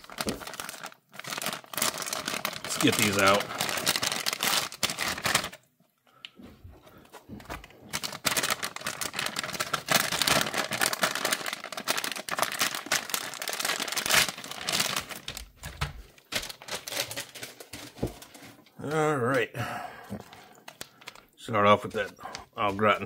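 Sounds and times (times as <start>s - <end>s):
plastic and foil packaging crinkling: 0.0s - 5.7s, 7.0s - 19.4s, 20.1s - 23.0s.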